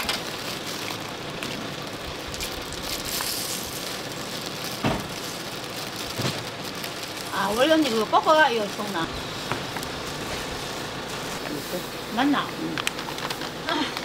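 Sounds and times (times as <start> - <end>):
oil sizzling on griddle: 0.0 - 13.8.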